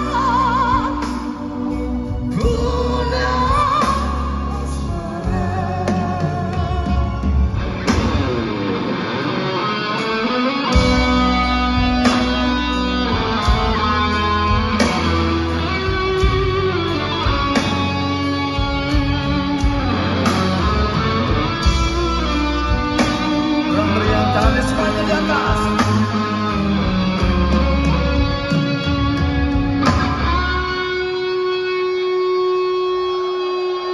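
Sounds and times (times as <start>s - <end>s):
bass guitar: 0.0s - 33.9s
drums: 0.0s - 33.9s
electric guitar solo: 0.0s - 33.9s.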